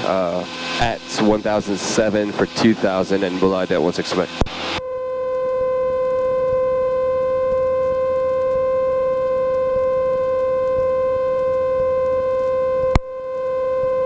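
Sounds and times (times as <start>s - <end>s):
steady electronic hum: 0.0s - 14.0s.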